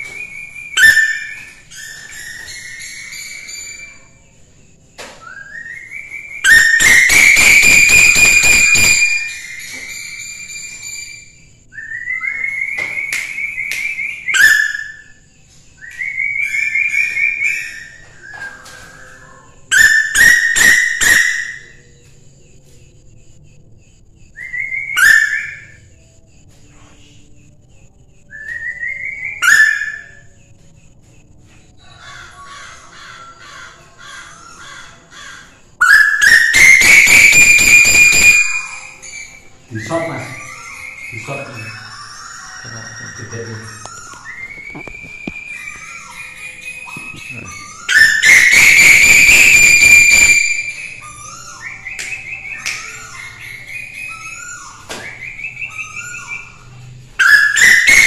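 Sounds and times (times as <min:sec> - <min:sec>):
bird whistling calls: 0:00.0 - 0:04.2, 0:05.2 - 0:21.9, 0:24.3 - 0:26.0, 0:28.4 - 0:30.4, 0:34.0 - 0:58.0.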